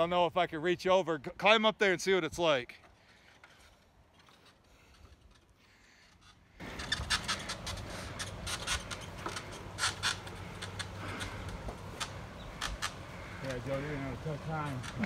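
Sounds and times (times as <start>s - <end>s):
rustling: 2.8s - 15.0s.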